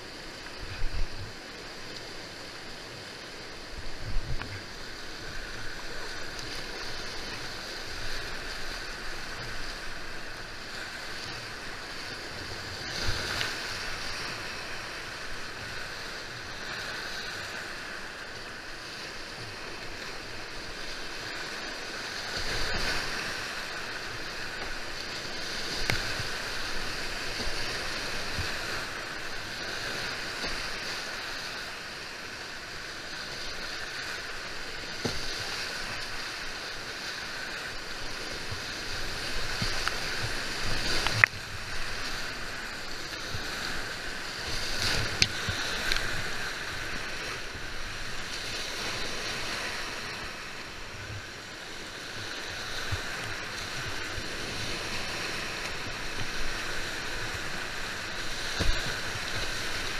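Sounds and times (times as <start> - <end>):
kayak splashing through waves: 0.0 - 59.9
whitewater rapids rushing: 0.0 - 59.9.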